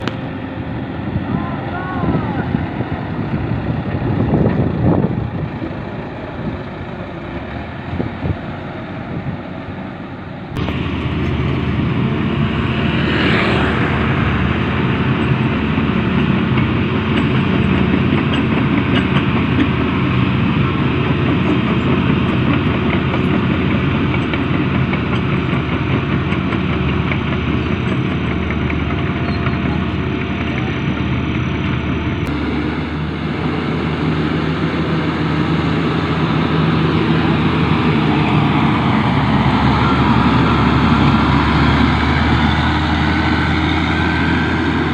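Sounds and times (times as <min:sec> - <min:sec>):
diesel construction machinery: 0:00.0 - 0:44.9.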